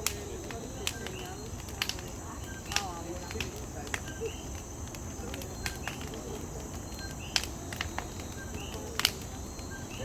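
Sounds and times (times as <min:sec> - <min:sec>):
insects trilling: 0:00.0 - 0:10.0
sharp pops: 0:00.0 - 0:10.0.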